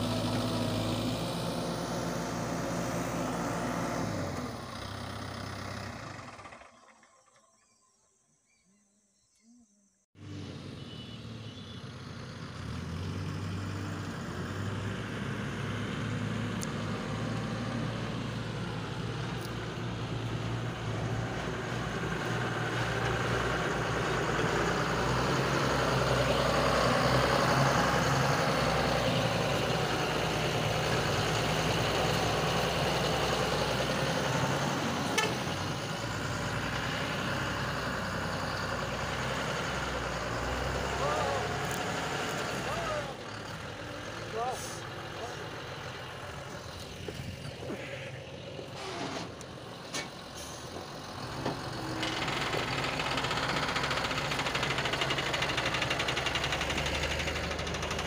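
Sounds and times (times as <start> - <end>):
truck diesel engine running: 0.0 - 7.0, 11.8 - 58.0.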